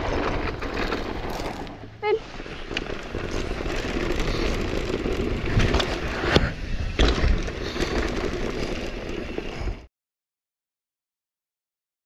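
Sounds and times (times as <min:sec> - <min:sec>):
bike knocking and rattling: 0:00.0 - 0:09.9
bike tyres rolling on dirt: 0:00.0 - 0:09.9.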